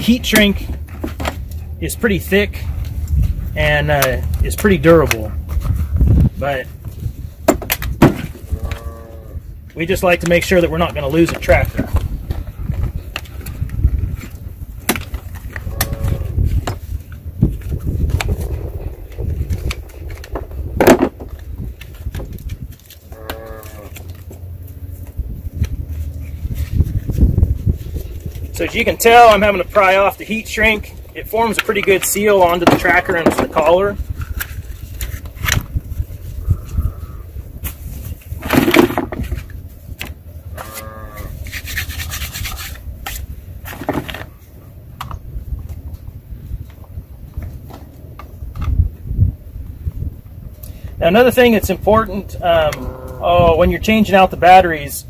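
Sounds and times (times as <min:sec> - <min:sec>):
handling clicks and scrapes: 0:00.0 - 0:08.9, 0:09.7 - 0:36.8, 0:37.6 - 0:48.8.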